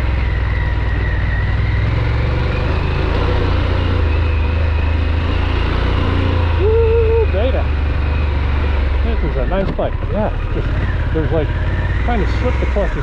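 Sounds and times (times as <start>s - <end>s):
motorcycle engine running: 0.0s - 13.0s
off-road riding noise: 0.0s - 13.0s.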